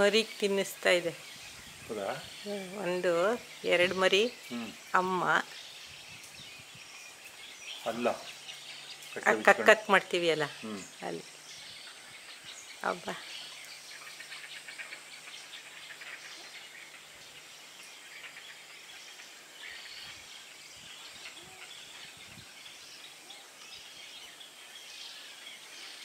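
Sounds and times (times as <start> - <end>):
faint bird chirping: 0.0 - 26.0
outdoor background hiss: 0.0 - 26.0.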